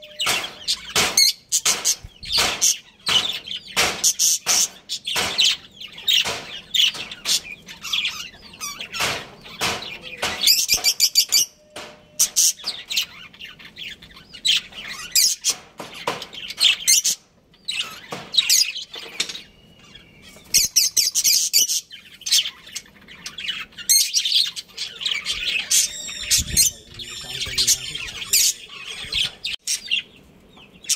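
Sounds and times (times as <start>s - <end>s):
budgerigars chirping: 0.0s - 30.9s.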